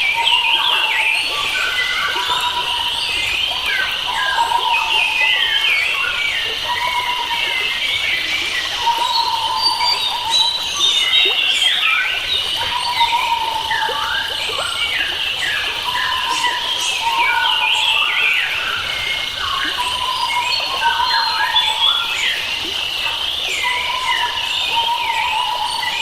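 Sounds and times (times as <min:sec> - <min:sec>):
birds chirping and whistling: 0:00.1 - 0:22.4.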